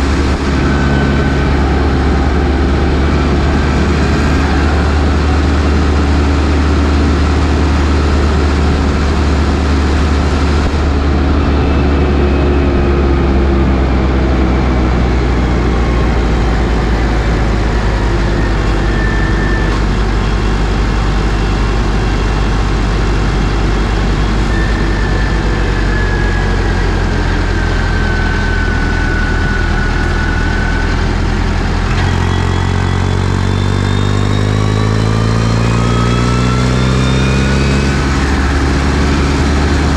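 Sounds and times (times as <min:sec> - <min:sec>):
tractor diesel engine: 0:00.0 - 0:39.9.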